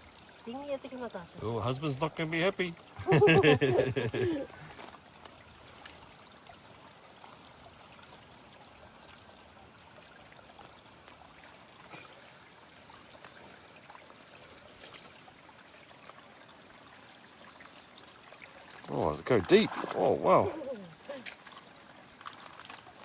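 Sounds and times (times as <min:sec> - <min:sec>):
faint trickle of running water: 0:00.0 - 0:23.0.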